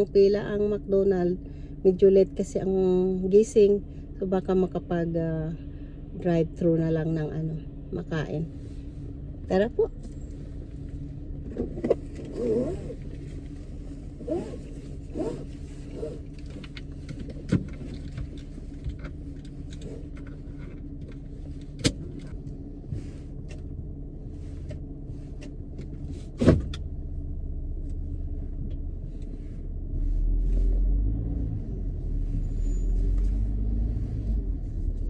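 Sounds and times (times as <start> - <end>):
car engine running: 0.0 - 35.0
low rumble: 0.0 - 35.0.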